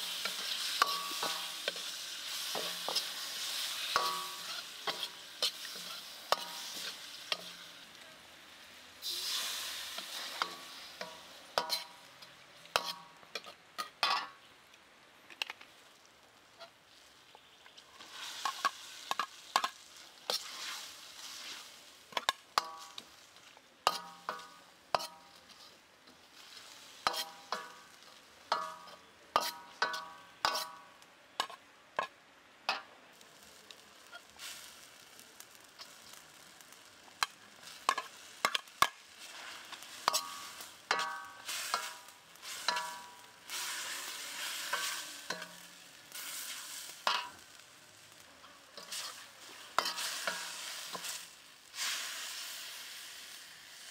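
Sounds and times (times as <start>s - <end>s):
food sizzling in hot oil: 0.0s - 14.5s, 15.8s - 32.1s, 32.7s - 53.9s.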